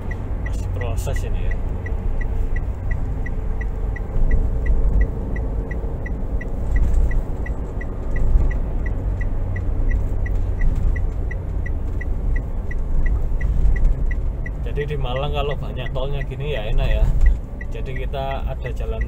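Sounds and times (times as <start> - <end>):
car cabin engine and road rumble: 0.0 - 19.0
turn signal ticking: 0.0 - 19.0.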